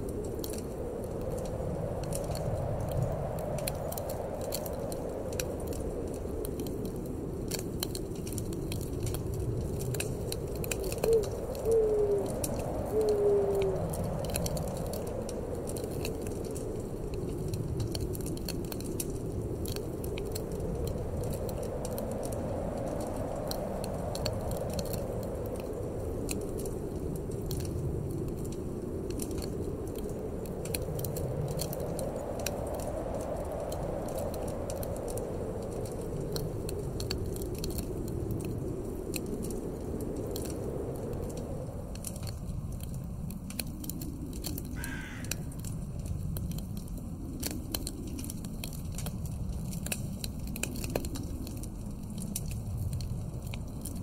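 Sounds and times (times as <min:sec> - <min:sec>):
hollow eerie wind: 0:00.0 - 0:54.0
wood fire crackling: 0:00.0 - 0:54.0.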